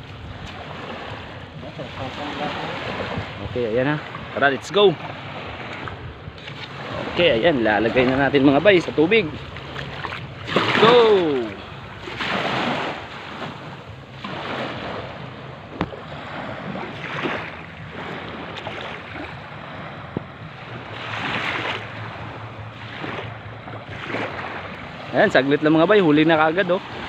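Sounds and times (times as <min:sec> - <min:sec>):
small waves washing onto beach: 0:00.0 - 0:27.0.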